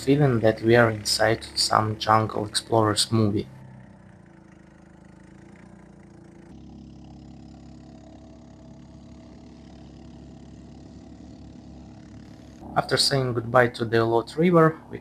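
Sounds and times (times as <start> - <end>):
small boat engine running: 0.0 - 15.0.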